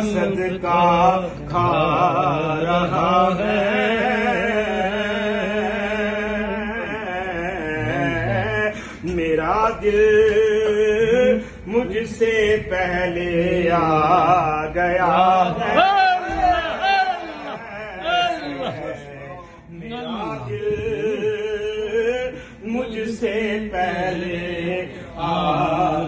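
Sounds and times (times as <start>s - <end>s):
men chanting: 0.0s - 26.0s.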